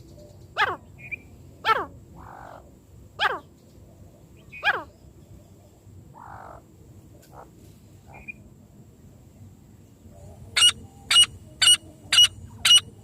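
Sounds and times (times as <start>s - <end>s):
francolin calling: 0.0s - 3.6s, 4.2s - 8.5s, 10.1s - 13.0s
soft raspy bird sounds: 0.0s - 8.5s, 10.1s - 13.0s.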